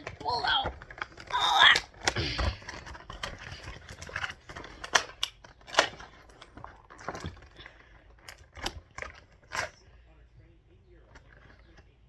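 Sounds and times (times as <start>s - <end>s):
plastic packaging crackling and clicking: 0.0s - 10.1s, 10.9s - 12.0s.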